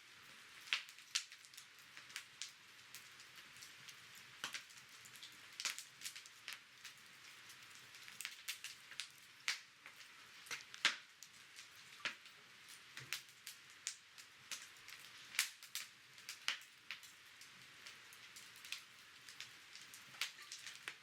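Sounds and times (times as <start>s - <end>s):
campfire crackling: 0.0s - 21.0s
faint steady hiss: 0.0s - 21.0s.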